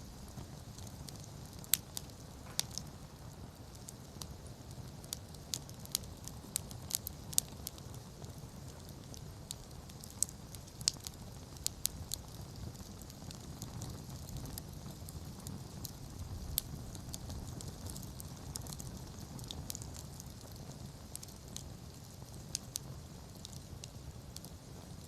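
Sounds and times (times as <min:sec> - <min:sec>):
campfire crackling and popping: 0:00.0 - 0:25.0
low rumble of flames: 0:00.0 - 0:25.0.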